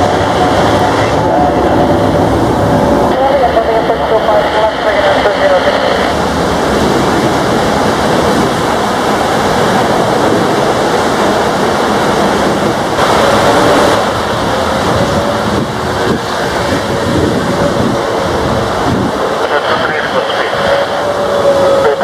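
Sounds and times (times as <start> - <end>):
heavy rain hissing: 0.0 - 22.0
jet engines at take-off power: 0.0 - 22.0.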